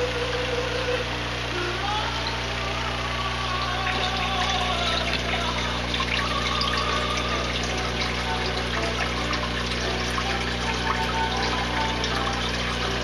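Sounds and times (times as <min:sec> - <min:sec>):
aquarium filter humming: 0:00.0 - 0:13.0
water dripping: 0:02.2 - 0:13.0
water trickling and splashing: 0:02.2 - 0:13.0.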